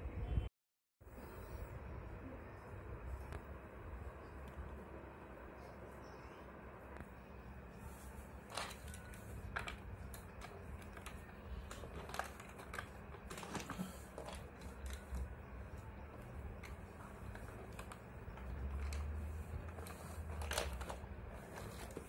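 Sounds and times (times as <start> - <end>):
low steady hum: 1.1 - 22.0.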